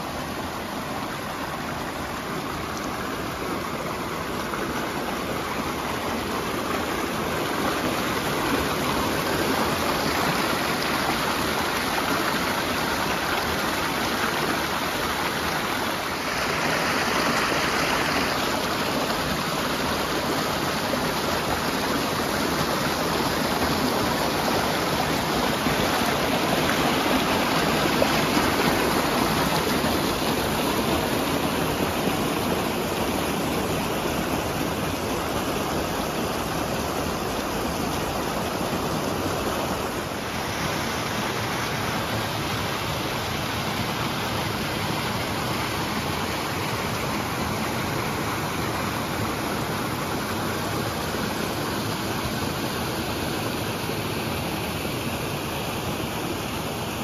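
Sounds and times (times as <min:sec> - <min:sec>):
creek water rushing over boulders: 0:00.0 - 0:57.0.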